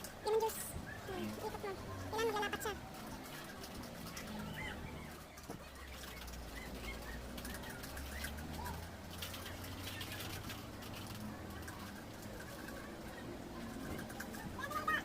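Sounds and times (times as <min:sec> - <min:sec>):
faint bird chirps: 0:00.3 - 0:15.0.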